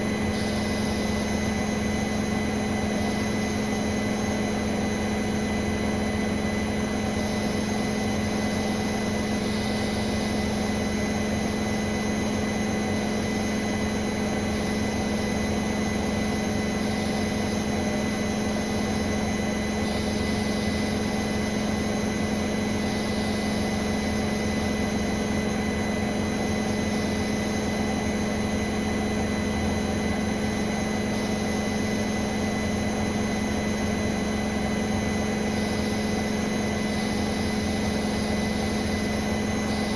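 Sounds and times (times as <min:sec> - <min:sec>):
washing machine spin hum: 0:00.0 - 0:39.9.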